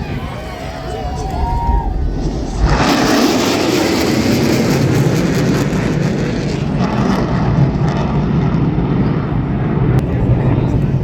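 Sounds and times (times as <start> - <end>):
military aircraft flying over: 0.0 - 11.0.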